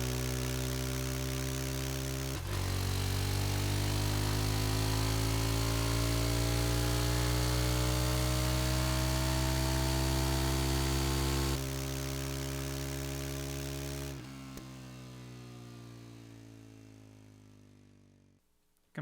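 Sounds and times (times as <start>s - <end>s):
motorcycle engine accelerating: 0.0s - 18.2s
quieter steady motorcycle engine: 0.0s - 18.4s.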